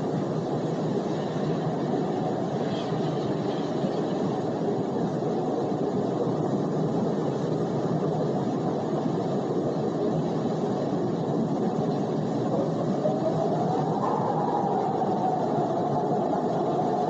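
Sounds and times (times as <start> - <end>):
wind blowing steadily: 0.0 - 17.0.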